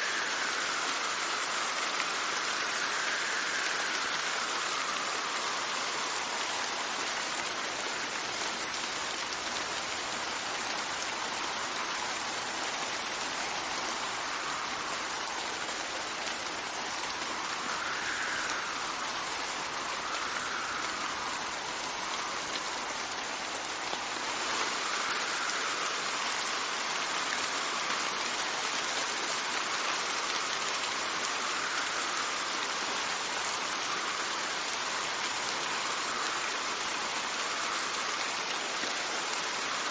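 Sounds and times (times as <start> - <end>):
steady rain falling: 0.0 - 39.9
wind: 0.0 - 39.9.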